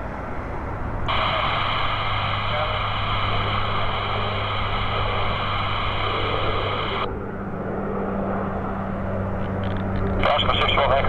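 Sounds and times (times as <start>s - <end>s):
jet engine high whine: 0.0s - 11.0s
jet engine rumble: 0.0s - 11.0s.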